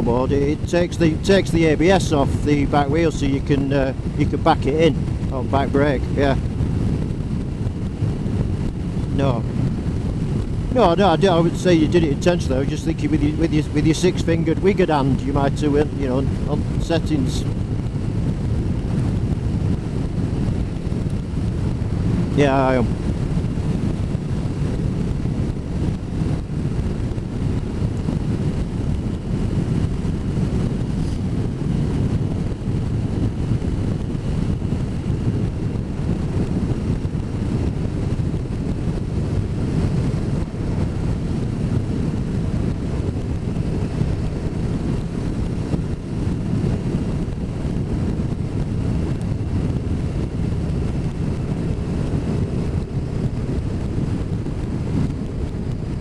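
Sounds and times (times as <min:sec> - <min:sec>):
motorcycle engine drone: 0:00.0 - 0:56.0
wind on microphone: 0:00.0 - 0:56.0.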